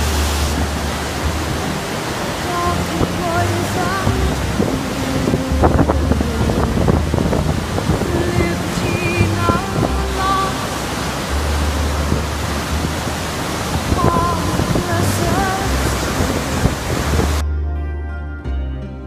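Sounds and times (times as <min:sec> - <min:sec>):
river rapids rushing: 0:00.0 - 0:17.4
background music with held tones: 0:00.0 - 0:19.0.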